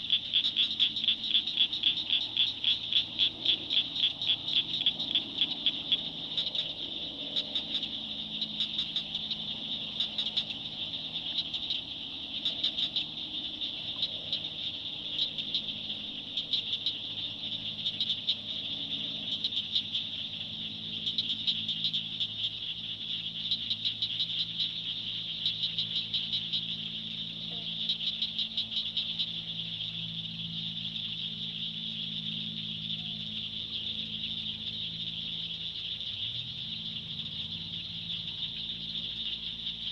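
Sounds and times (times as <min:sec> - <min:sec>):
high-pitched insect trill: 0:00.0 - 0:39.9
low steady hum: 0:00.0 - 0:39.9
rapid clicking frog calls: 0:00.0 - 0:39.9.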